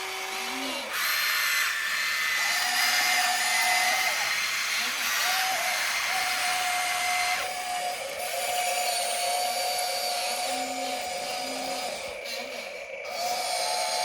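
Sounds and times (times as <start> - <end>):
toy electric motors whining: 0.0 - 14.0.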